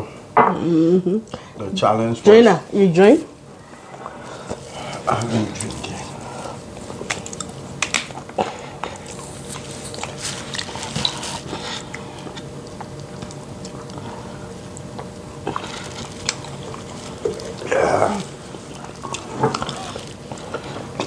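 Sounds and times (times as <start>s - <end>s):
chewing with lip smacks: 3.6s - 21.0s.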